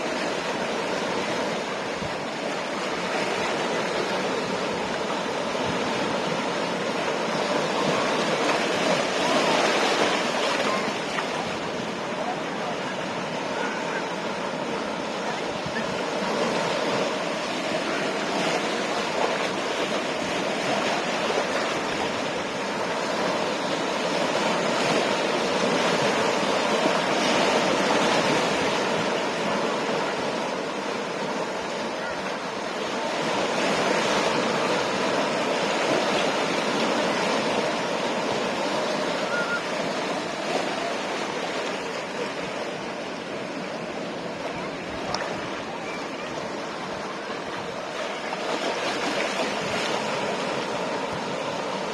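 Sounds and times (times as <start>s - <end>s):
ocean surf breaking on shore: 0.0s - 51.9s.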